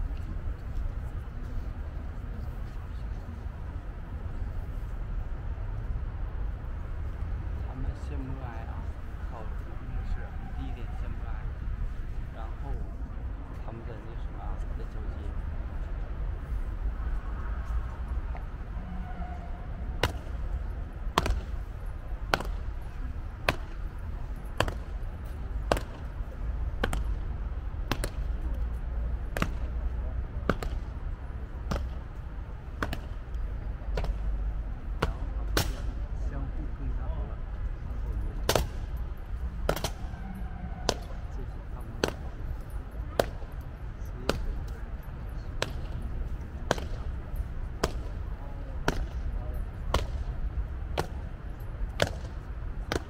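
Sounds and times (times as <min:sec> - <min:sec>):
steady low rumble: 0:00.0 - 0:53.0.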